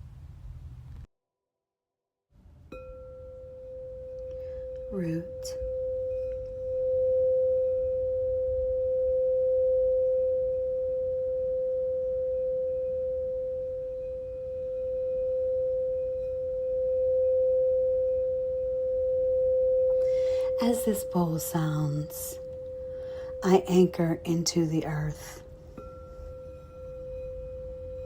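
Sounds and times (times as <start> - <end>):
crystal singing bowl ringing: 2.7 - 28.0.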